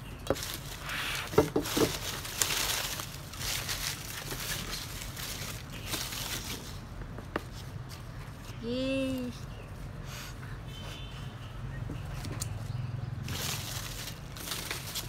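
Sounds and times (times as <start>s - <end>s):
dry leaves rustling: 0.0s - 15.0s.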